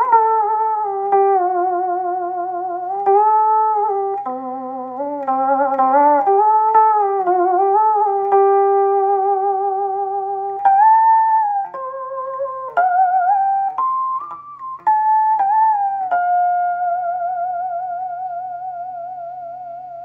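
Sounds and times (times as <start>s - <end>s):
faint amplifier hum: 0.0s - 20.0s
plucked monochord notes bending: 0.0s - 20.0s.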